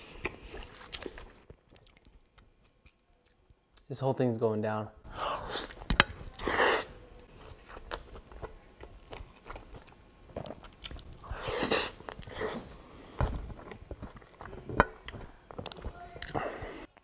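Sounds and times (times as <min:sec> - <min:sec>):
person chewing: 0:00.0 - 0:03.6, 0:05.1 - 0:17.0.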